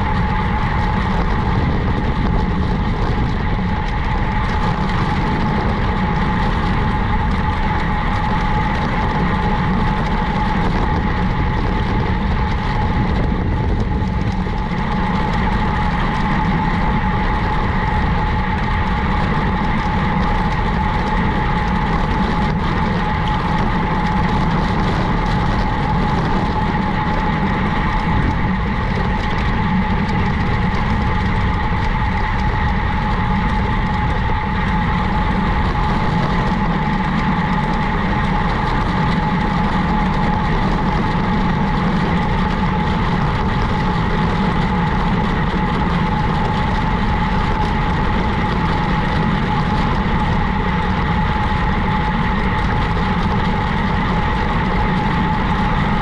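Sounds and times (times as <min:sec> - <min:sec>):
vehicle running rumble and whine: 0:00.0 - 0:56.0.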